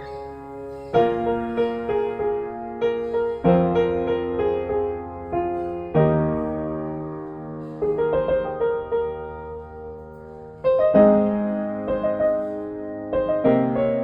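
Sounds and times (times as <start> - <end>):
soft solo piano music: 0.0 - 14.0.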